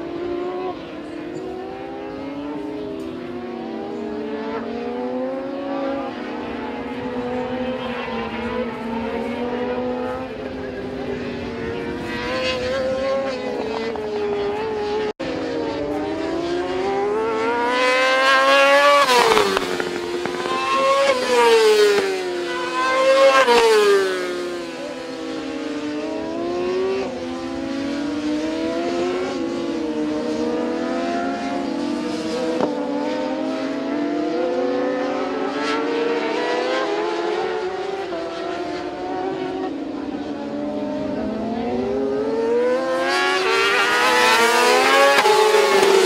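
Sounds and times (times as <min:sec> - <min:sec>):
racing motorcycles revving past: 0:00.0 - 0:46.0.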